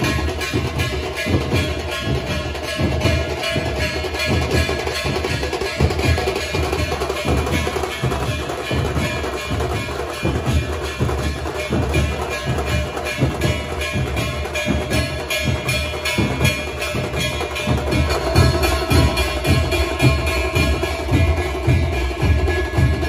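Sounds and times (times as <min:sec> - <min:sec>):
large drums beaten fast: 0:00.0 - 0:23.0.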